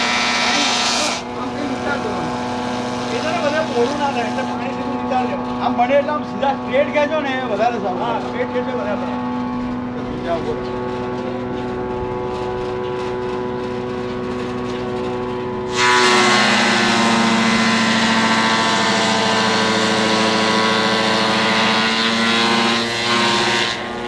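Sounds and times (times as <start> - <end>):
fibre extraction machine running: 0.0 - 24.0.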